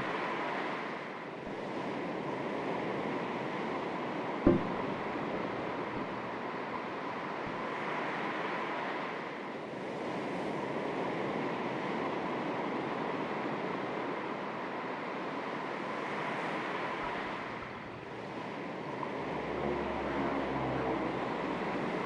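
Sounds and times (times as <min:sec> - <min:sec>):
gentle breeze: 0:00.0 - 0:22.0
sea waves lapping on shore: 0:00.0 - 0:22.0.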